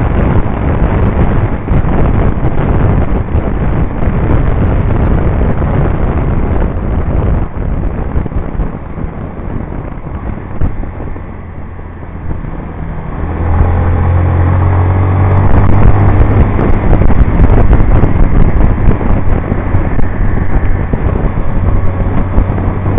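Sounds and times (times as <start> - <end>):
motorcycle engine running: 0.0 - 22.9
wind rushing over microphone: 0.0 - 22.9.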